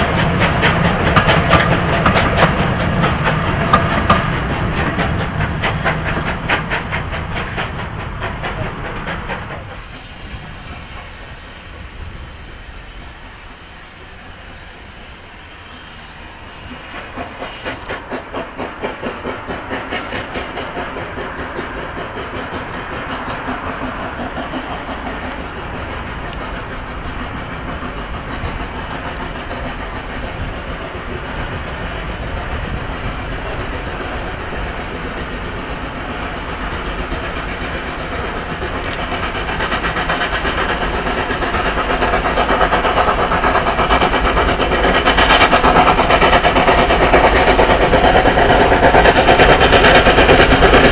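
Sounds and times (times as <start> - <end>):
steam locomotive chugging: 0.0 - 50.9.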